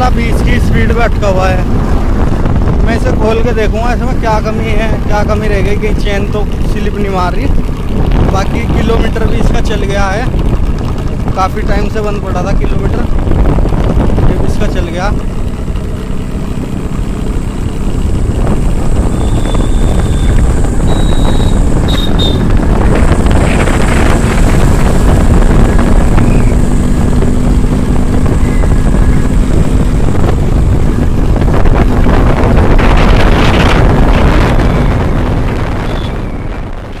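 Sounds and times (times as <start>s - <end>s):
wind buffeting microphone: 0.0s - 37.0s
scooter engine running: 4.4s - 36.5s.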